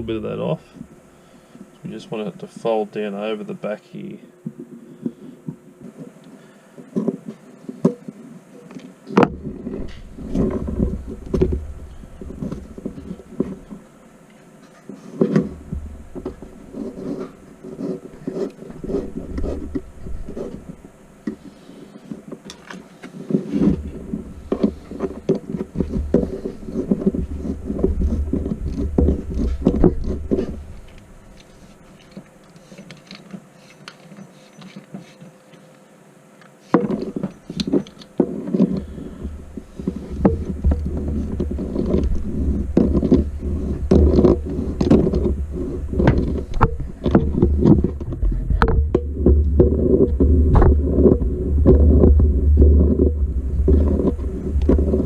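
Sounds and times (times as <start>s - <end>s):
cable scraping clicking and rustling: 5.8s - 55.0s.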